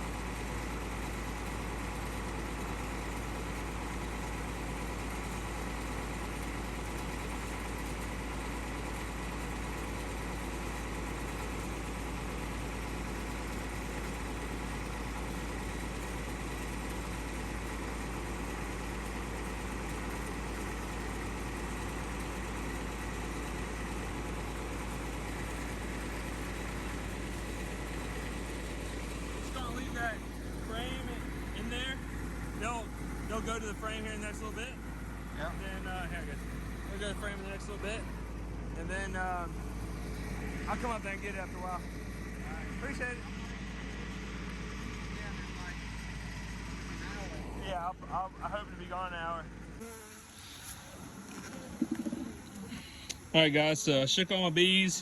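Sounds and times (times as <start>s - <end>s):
bulldozer diesel engine idling: 0.0s - 55.0s.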